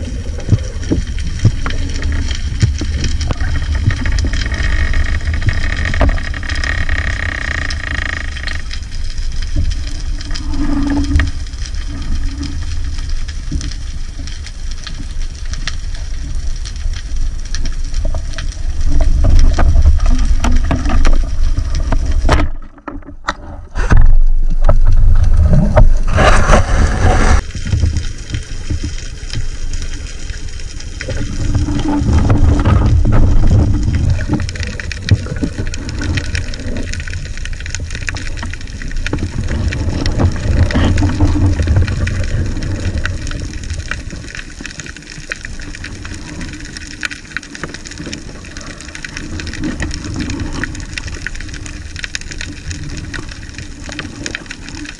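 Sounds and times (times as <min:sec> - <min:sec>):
underwater rumble and rush: 0:00.0 - 0:54.9.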